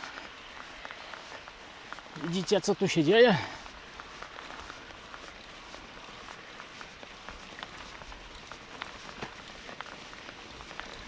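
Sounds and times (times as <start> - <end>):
bike tyres rolling through sand: 0.0 - 11.0.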